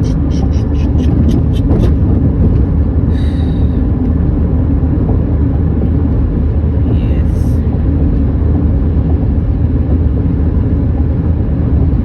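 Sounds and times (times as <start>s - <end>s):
car driving rumble from inside: 0.0s - 12.0s.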